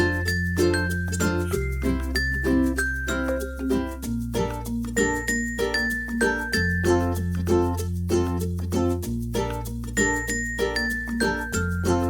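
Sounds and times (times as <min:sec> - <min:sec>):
melody of ringing notes: 0:00.0 - 0:07.8, 0:10.0 - 0:12.0
held bass notes: 0:00.0 - 0:12.0.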